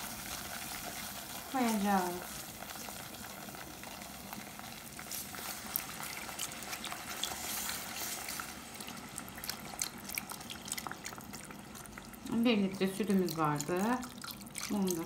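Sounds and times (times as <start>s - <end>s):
milk pouring and bubbling: 0.0s - 15.0s
roux sizzling: 0.0s - 15.0s.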